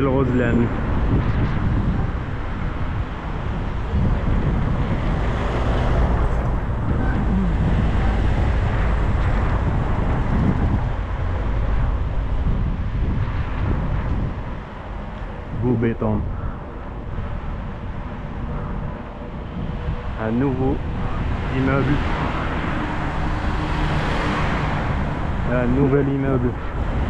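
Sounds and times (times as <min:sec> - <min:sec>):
road traffic: 0:00.0 - 0:27.0
wind rumbling on microphone: 0:00.0 - 0:27.0.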